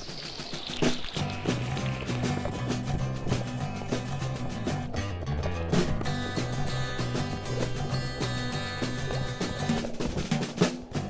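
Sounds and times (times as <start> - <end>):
steady drum beat: 1.6 - 11.0.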